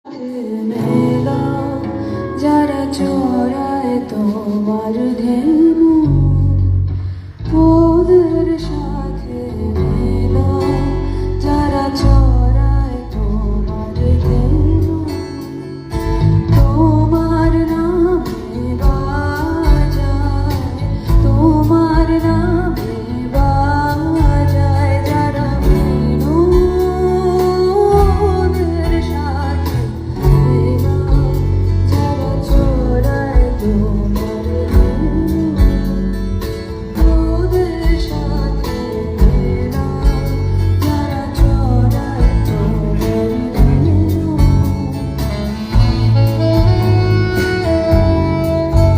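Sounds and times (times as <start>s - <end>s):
person singing lead vocal: 0.0s - 48.9s
guitar: 0.1s - 48.9s
bass: 0.8s - 48.9s.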